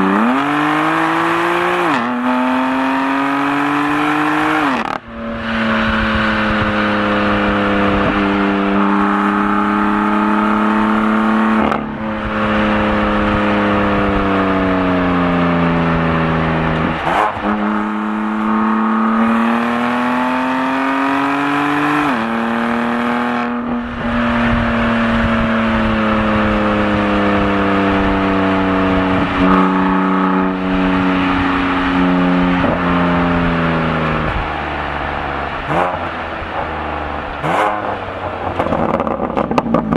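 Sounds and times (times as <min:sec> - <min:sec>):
car engine and exhaust under load: 0:00.0 - 0:39.9.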